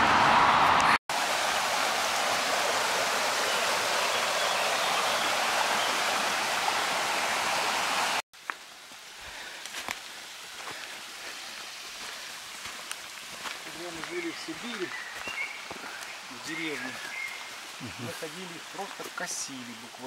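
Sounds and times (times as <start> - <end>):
forest stream rushing: 0.0 - 20.0.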